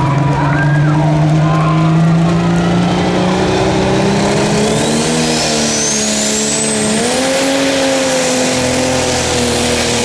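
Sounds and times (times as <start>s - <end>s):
diesel tractor engine running hard: 0.0s - 10.0s.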